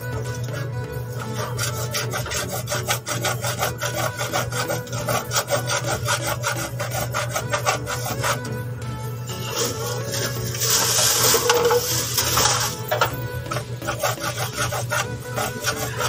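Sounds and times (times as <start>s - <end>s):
hacksaw rasping through plastic pipe: 0.0s - 8.6s, 9.4s - 16.0s.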